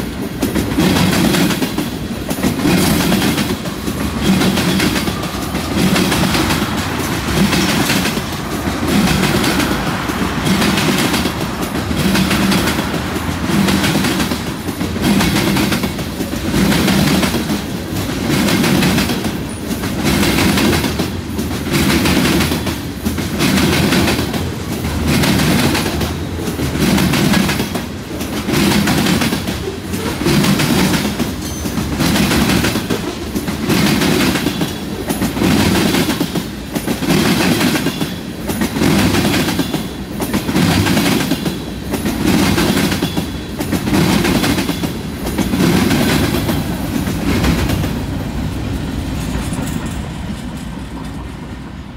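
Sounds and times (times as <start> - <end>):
train wheels clacking: 0.0 - 51.9.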